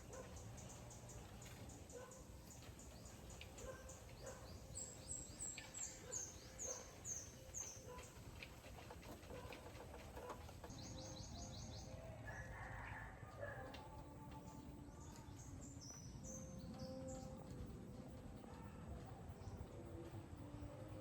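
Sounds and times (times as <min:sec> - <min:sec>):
small birds singing: 0:00.0 - 0:17.8.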